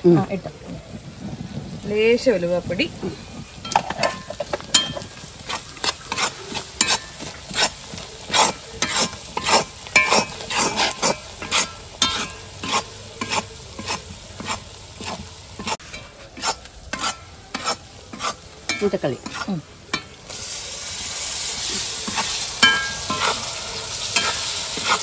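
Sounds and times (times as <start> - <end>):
food sizzling: 0.0 - 25.0
spatula scraping metal pan: 3.6 - 25.0.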